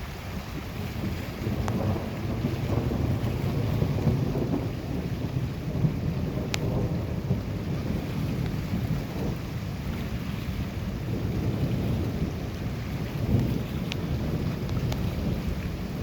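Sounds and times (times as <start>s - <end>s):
rolling thunder: 0.0s - 16.0s.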